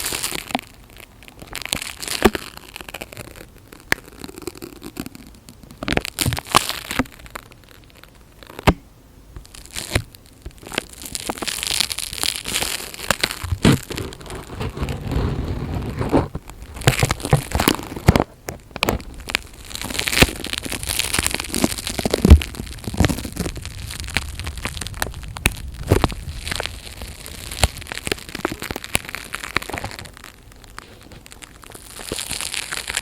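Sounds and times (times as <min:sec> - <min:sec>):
rustling: 0:00.0 - 0:08.7, 0:09.4 - 0:33.0
crinkling and crackling: 0:00.0 - 0:33.0.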